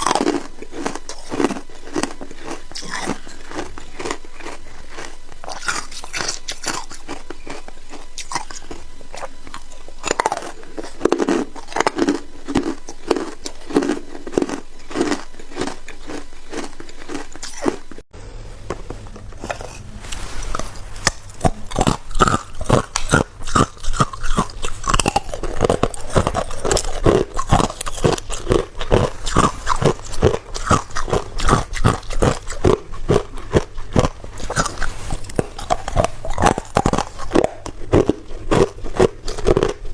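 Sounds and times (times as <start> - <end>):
person crunching ice: 0.0 - 17.8, 19.4 - 39.9.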